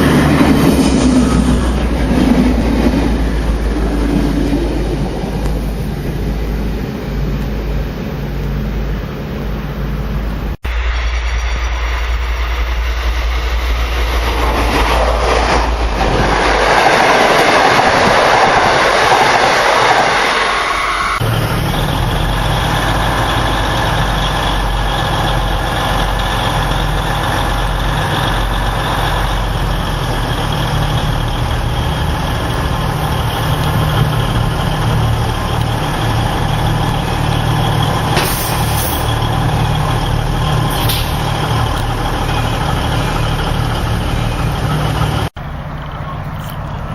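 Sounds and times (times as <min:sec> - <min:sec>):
diesel locomotive engine idling: 0:00.0 - 0:46.9
train running past: 0:00.0 - 0:46.9.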